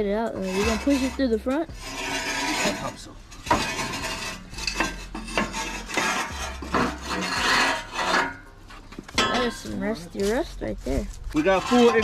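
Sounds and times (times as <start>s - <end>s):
metal scraping and clanking: 0.0s - 12.0s.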